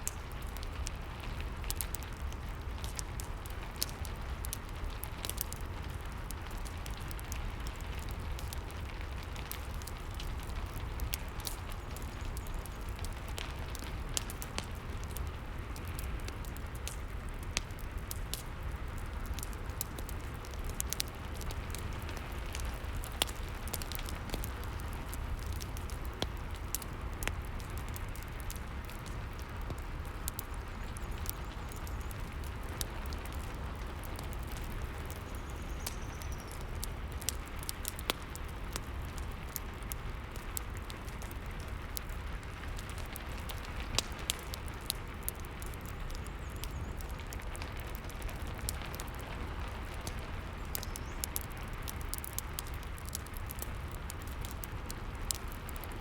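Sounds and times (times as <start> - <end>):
fireplace crackling: 0.0 - 56.0
steady rain: 0.0 - 56.0.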